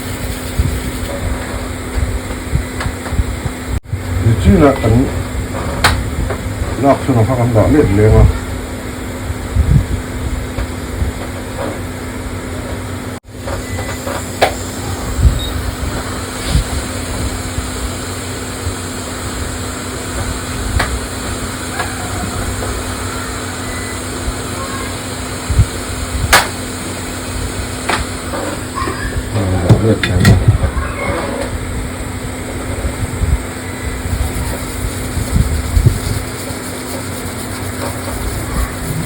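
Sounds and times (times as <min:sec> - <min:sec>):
electrical hum and hiss: 0:00.0 - 0:39.0.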